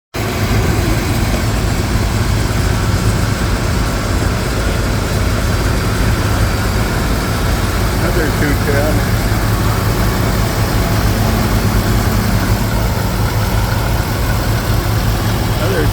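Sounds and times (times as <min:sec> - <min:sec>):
tractor engine rumbling: 0:00.1 - 0:15.9.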